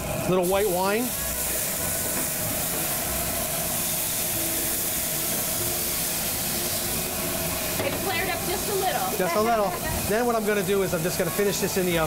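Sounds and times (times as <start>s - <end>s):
wine sizzling in a pan: 0.0s - 12.0s.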